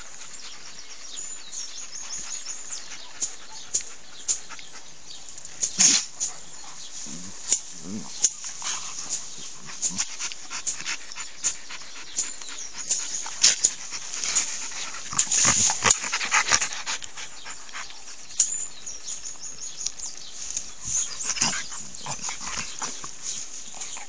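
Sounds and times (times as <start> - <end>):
dogs panting: 0.0 - 24.0.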